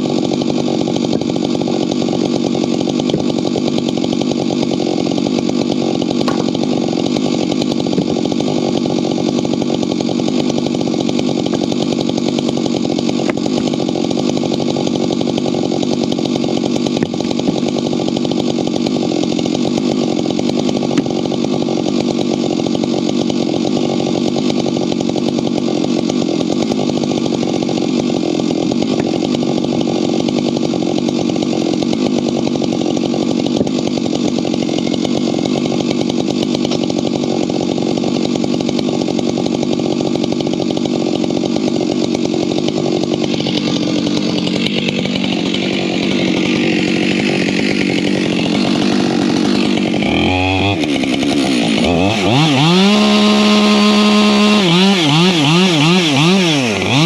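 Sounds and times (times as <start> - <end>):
chainsaw cutting firewood: 0.0 - 57.0.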